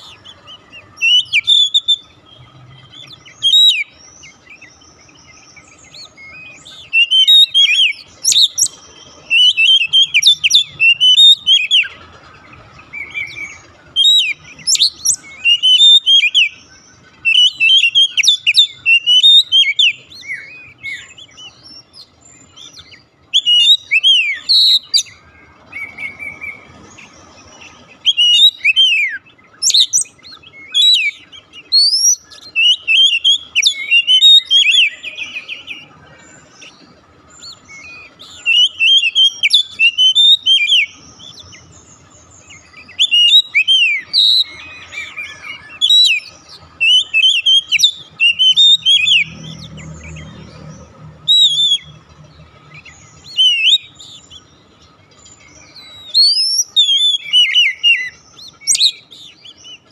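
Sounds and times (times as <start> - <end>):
bird singing whistled phrases: 0.0 - 12.0, 12.8 - 26.7, 27.5 - 52.0, 52.6 - 54.6, 55.2 - 59.9.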